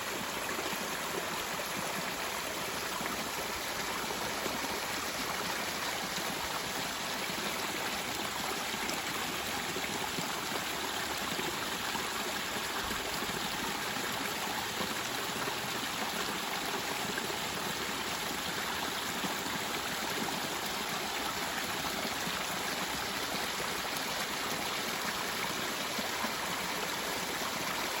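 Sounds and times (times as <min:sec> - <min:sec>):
stream running over rocks: 0:00.0 - 0:28.0.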